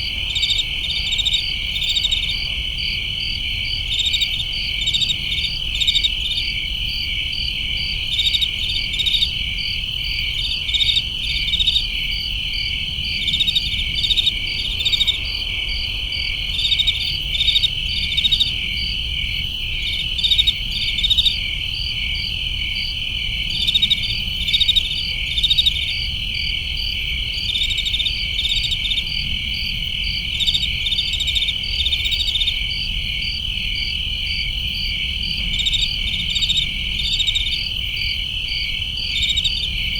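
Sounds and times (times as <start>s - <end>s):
crickets trilling: 0.0s - 39.9s
insects chirping: 0.0s - 39.9s.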